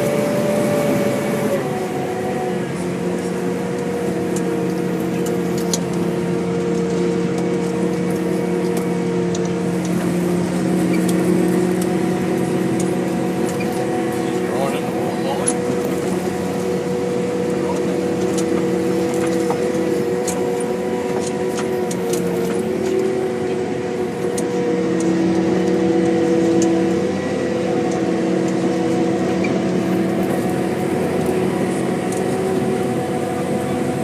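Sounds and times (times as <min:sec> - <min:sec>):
diesel machinery running: 0:00.0 - 0:34.0.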